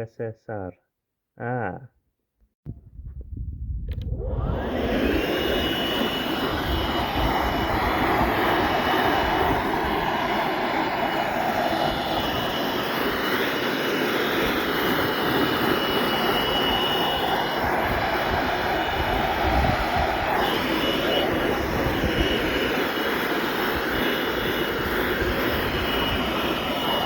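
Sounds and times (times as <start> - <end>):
machine running noise: 3.9 - 27.0
machine whine rising: 3.9 - 27.0.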